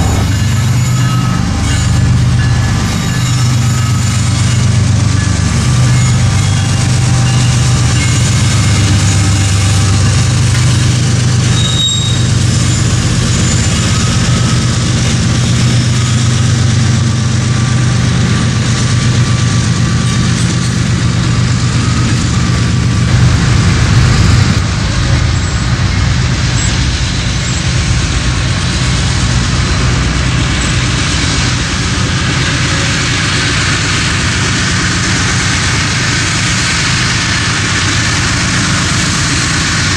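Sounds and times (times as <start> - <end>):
diesel locomotive engine humming: 0.0 - 39.9
train wheels rumbling on rails: 0.0 - 39.9.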